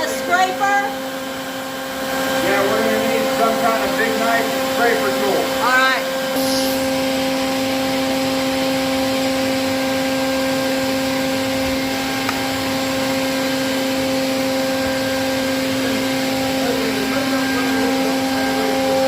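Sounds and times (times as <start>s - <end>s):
vacuum motor humming: 0.0s - 19.0s.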